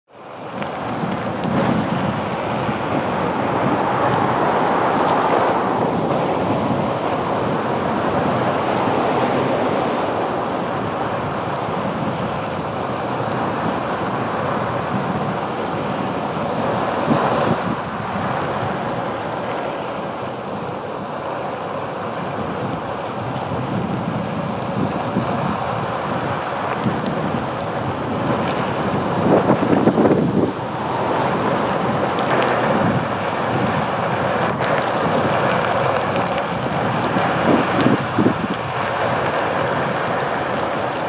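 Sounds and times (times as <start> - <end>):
wheel rolling on pavement: 0.2 - 41.0
wind buffeting microphone: 0.2 - 41.0.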